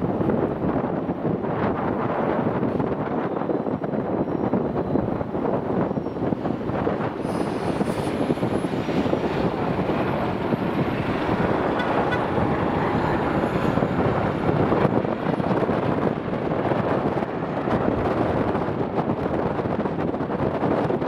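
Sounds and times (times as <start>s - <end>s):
jet engines roaring: 0.4s - 21.0s.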